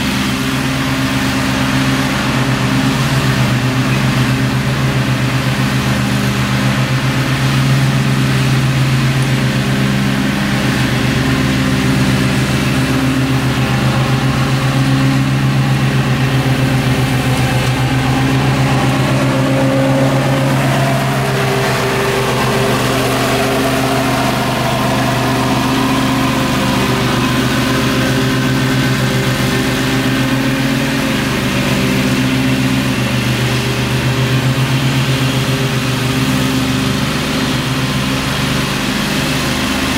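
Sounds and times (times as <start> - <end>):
riding mower engine running: 0.0 - 39.9.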